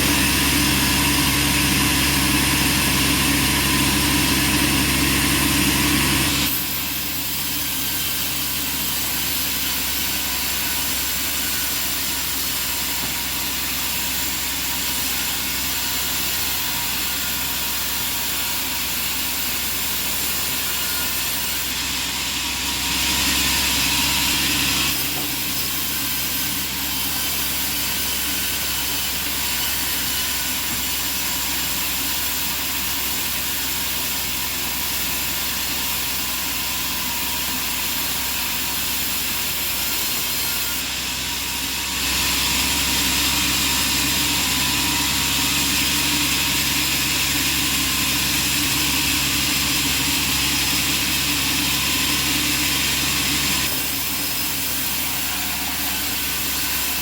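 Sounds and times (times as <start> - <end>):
bandsaw sawmill running: 0.0 - 57.0.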